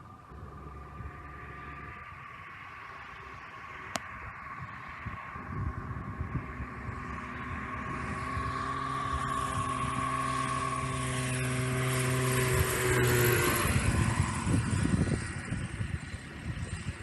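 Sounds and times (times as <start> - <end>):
ultralight aircraft passing: 0.0 - 17.0.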